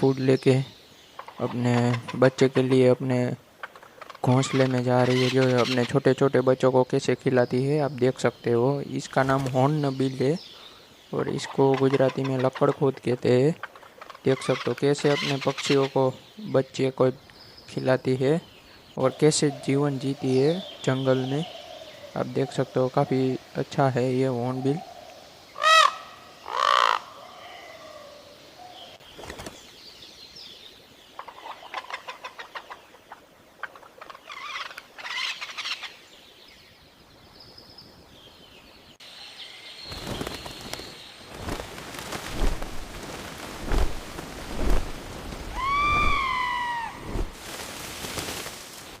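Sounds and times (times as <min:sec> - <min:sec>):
birds calling: 0:00.0 - 0:49.0.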